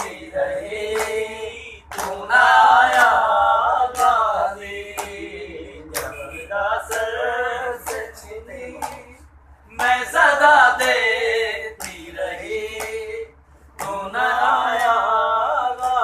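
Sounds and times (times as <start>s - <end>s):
men singing a lament: 0.0s - 16.0s
sharp rhythmic beat: 0.0s - 16.0s.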